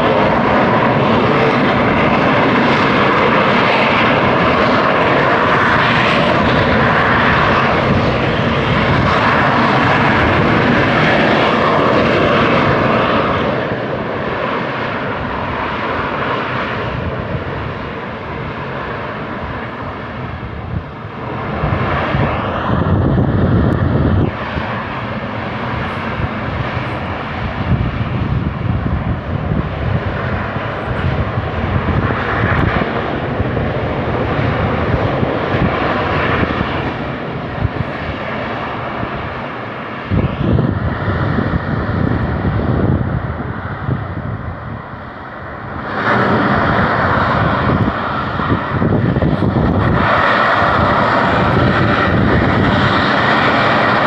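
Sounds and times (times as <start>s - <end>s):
volcano venting ash: 0.0s - 54.0s.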